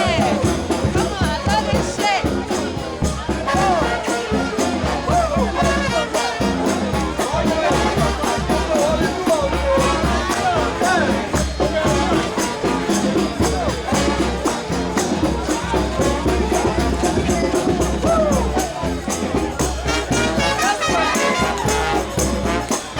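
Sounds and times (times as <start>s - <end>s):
brass band playing: 0.0s - 22.9s
crowd voices: 0.0s - 22.9s
driving drumbeat: 0.0s - 22.9s.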